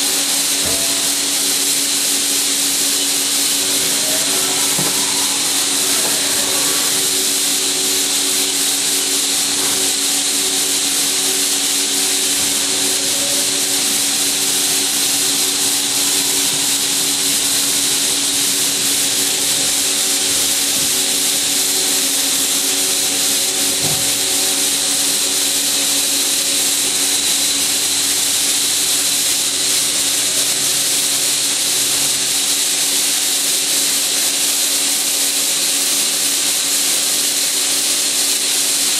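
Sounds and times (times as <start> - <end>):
constant machine hums: 0.0 - 38.9
lathe running: 0.0 - 38.9.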